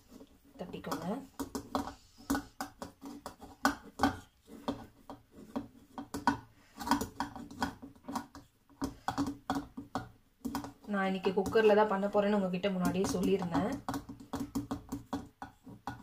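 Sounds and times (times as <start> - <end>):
fingertips patting dough: 0.0 - 16.0.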